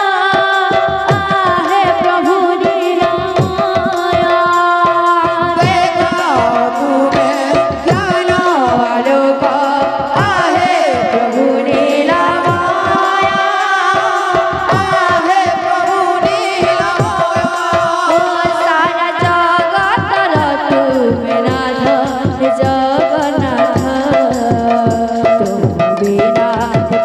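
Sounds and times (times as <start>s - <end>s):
barrel drums played fast: 0.0s - 27.0s
person singing: 0.0s - 27.0s.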